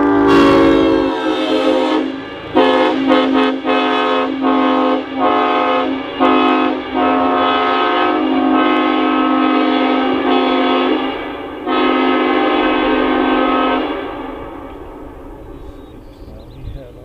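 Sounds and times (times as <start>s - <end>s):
locomotive air horn blasts: 0.0s - 15.4s.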